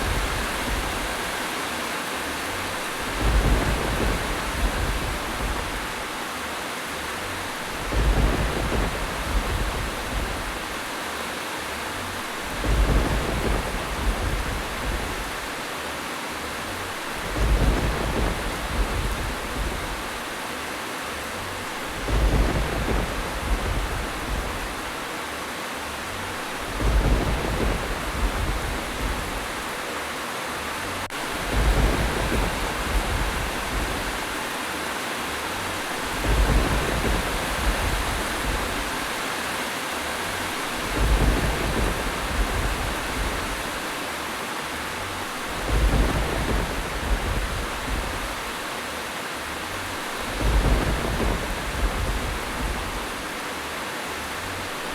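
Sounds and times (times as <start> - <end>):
thunder rumbling: 0.0 - 1.6, 2.2 - 6.3, 6.9 - 11.0, 11.8 - 15.7, 16.5 - 20.5, 21.1 - 25.2, 26.1 - 39.4, 40.2 - 44.1, 44.7 - 53.4
heavy rain: 0.0 - 54.9.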